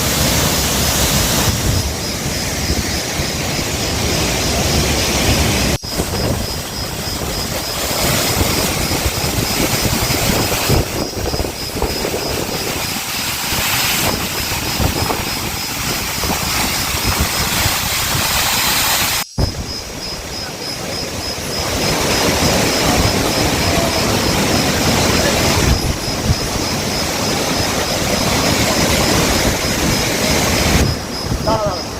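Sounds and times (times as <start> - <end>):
waterfall roaring: 0.0 - 31.9.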